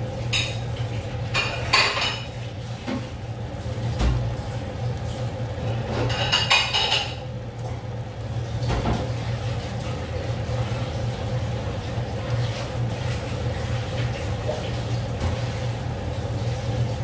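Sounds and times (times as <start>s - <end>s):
pots simmering on stove: 0.0s - 17.0s.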